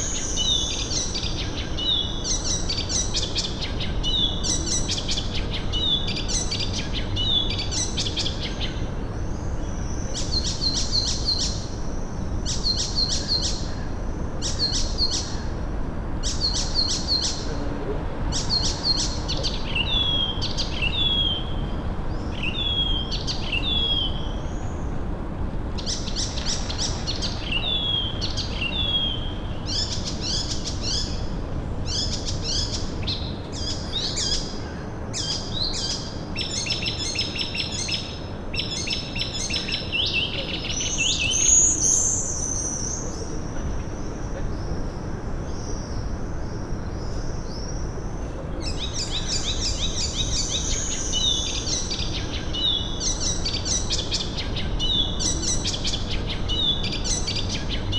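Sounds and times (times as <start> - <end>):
low background hum: 0.0 - 57.9
songbirds singing and calling: 0.0 - 57.9.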